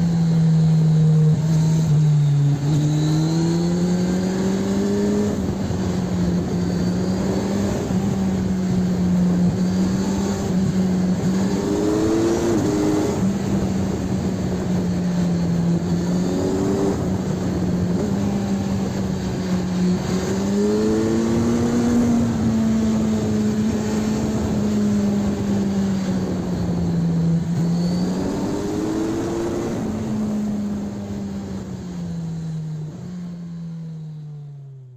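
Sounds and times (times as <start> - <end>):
motorcycle engine running: 0.0 - 34.8.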